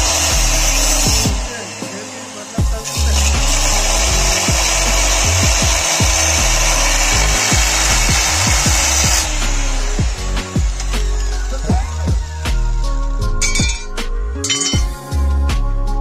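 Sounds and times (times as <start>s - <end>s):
abrasive disc cutting metal: 0.0s - 15.0s.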